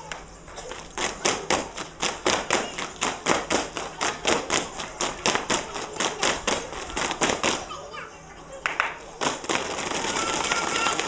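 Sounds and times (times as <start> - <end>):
girls beating a fast rhythm: 0.0 - 7.8, 8.6 - 11.0.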